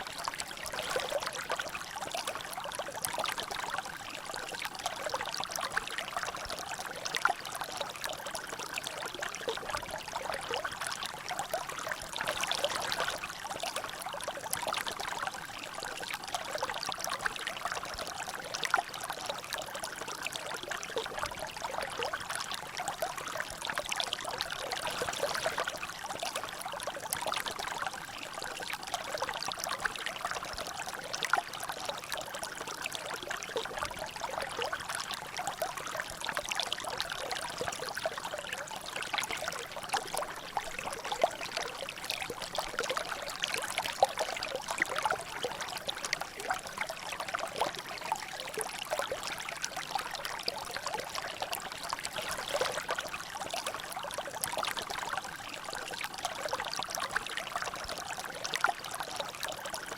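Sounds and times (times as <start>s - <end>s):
water trickling in a channel: 0.0s - 59.9s.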